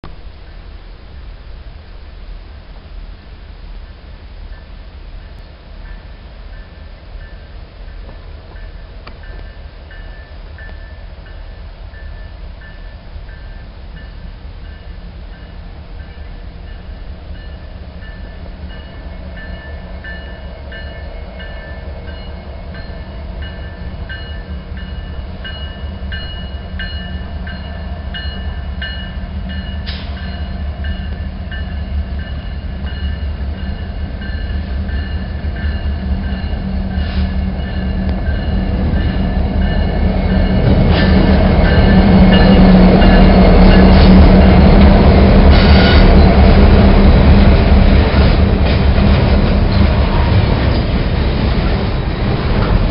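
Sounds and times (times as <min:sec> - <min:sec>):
locomotive engine rumble: 0:00.0 - 0:52.9.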